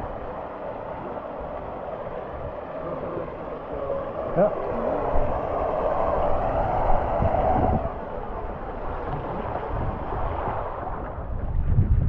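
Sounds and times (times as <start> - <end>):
water rushing down a waterslide: 0.0 - 11.7
wind buffeting microphone: 0.0 - 12.0.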